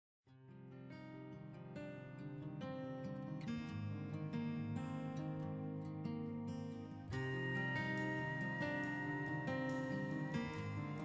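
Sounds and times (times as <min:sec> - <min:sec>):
acoustic guitar music: 0:00.3 - 0:11.0.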